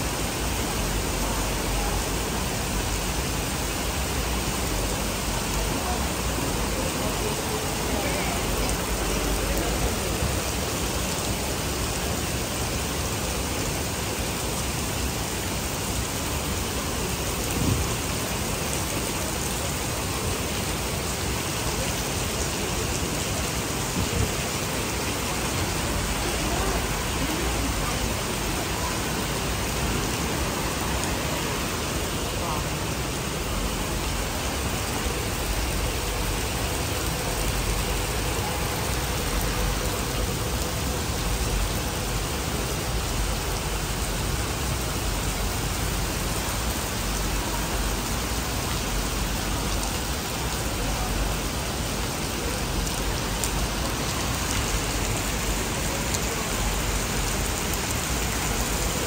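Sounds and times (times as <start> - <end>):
heavy rain on wet pavement: 0.0 - 59.0.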